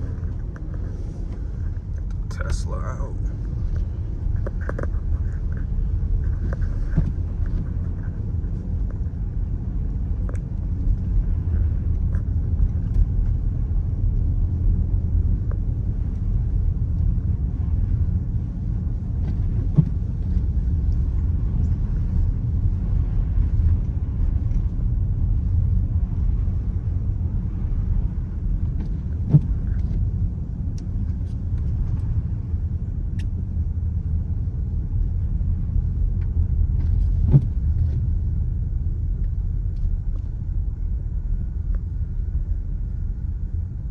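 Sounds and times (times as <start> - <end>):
engine and road rumble: 0.0 - 43.9.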